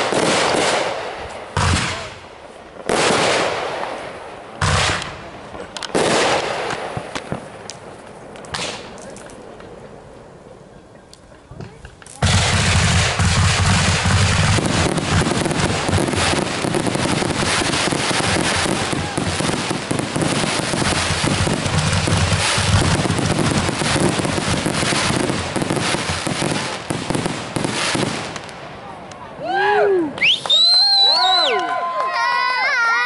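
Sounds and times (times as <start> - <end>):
fireworks crackles and bangs: 0.0 - 29.3, 30.2 - 31.2.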